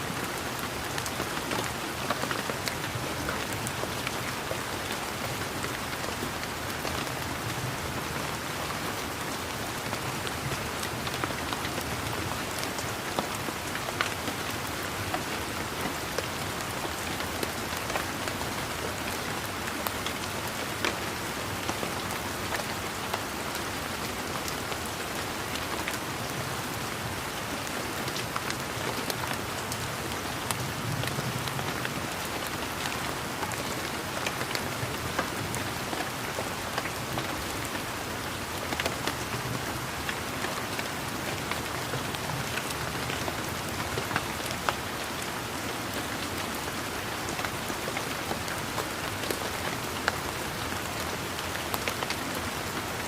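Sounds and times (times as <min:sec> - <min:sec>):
rain pattering on leaves: 0:00.0 - 0:53.0.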